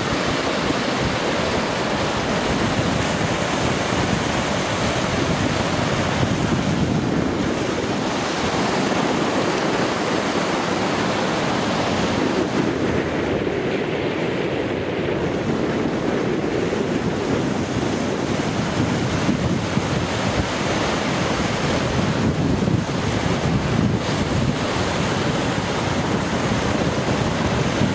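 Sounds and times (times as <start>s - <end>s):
surf breaking over rocks: 0.0s - 27.9s
wind buffeting microphone: 0.0s - 27.9s.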